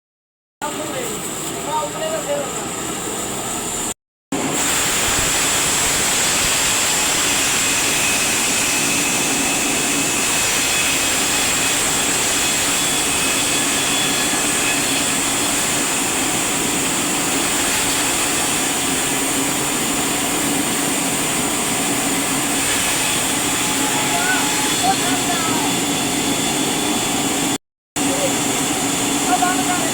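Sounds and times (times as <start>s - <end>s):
woodworking machine whirring: 4.5s - 29.9s.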